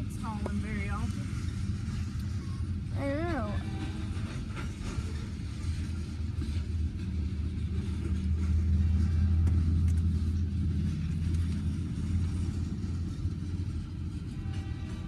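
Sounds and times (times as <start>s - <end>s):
freight train cars rumbling: 0.0s - 15.0s.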